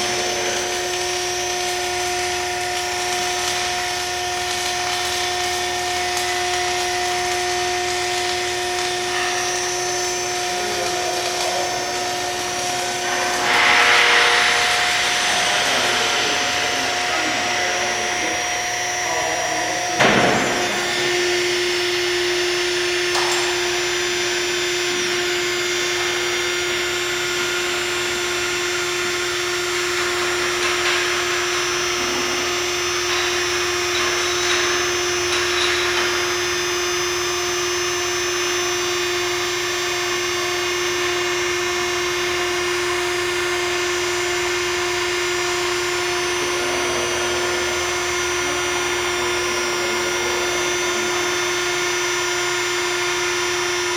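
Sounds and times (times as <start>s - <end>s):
machinery whirring: 0.0s - 53.9s
steady hum: 0.0s - 53.9s.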